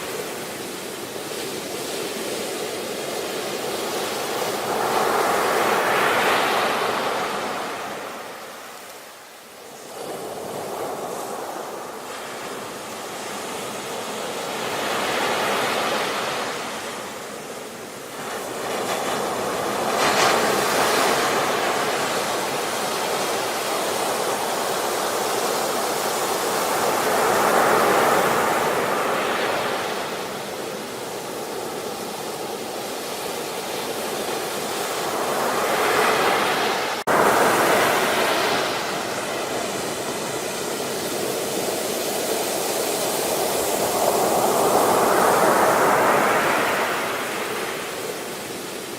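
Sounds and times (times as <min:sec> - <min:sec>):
ocean waves breaking: 0:00.0 - 0:48.9.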